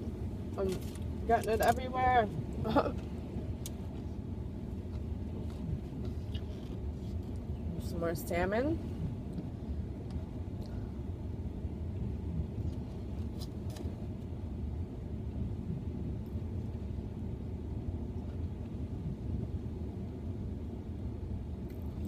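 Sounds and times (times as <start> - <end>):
car cabin rumble: 0.0 - 22.0.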